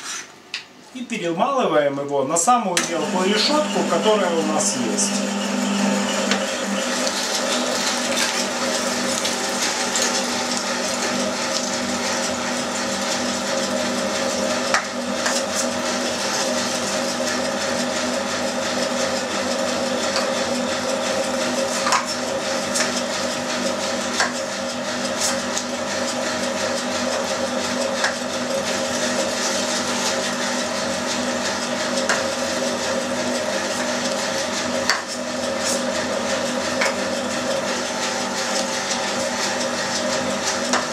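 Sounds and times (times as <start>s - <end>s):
electric meat grinder humming: 2.7s - 40.9s.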